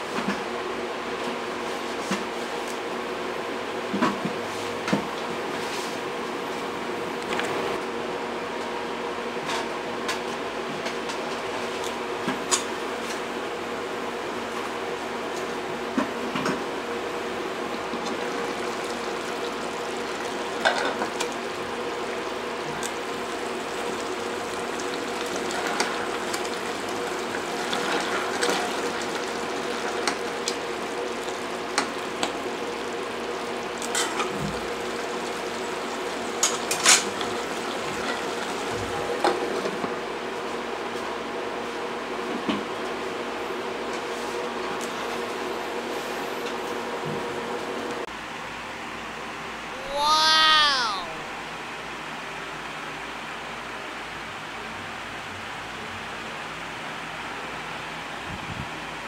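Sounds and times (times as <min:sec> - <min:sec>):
fan hum and hiss: 0:00.0 - 0:59.0.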